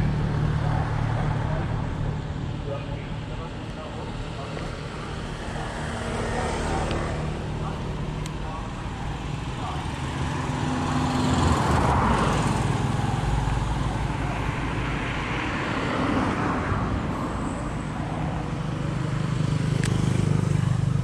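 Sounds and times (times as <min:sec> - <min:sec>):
car passing: 0:00.0 - 0:21.0
motor scooters passing: 0:00.0 - 0:21.0.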